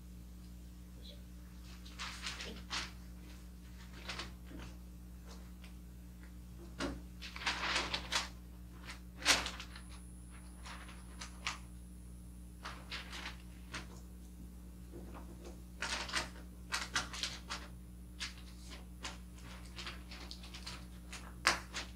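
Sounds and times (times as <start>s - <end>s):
wrapping paper rustling: 1.6s - 5.8s, 6.8s - 11.8s, 12.5s - 14.2s, 14.9s - 21.9s.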